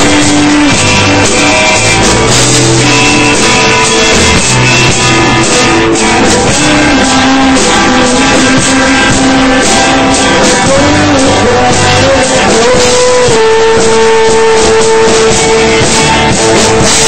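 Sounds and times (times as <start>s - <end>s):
bass guitar: 0.0s - 17.0s
drum kit: 0.0s - 17.0s
electric guitars: 0.0s - 17.0s
sustained bent guitar line: 0.0s - 17.0s.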